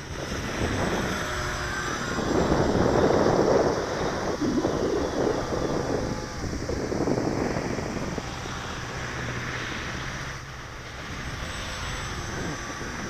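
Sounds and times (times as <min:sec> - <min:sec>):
model plane propeller whine: 0:00.0 - 0:13.0
wind buffeting microphone: 0:00.0 - 0:13.0.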